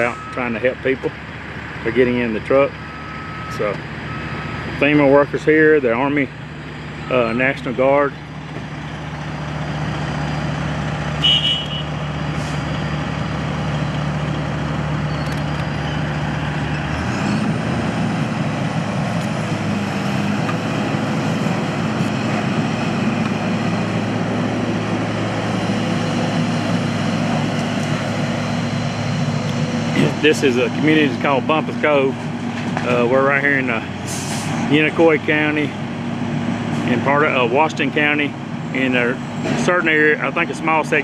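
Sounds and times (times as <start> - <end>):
heavy truck engine running: 0.0 - 41.0.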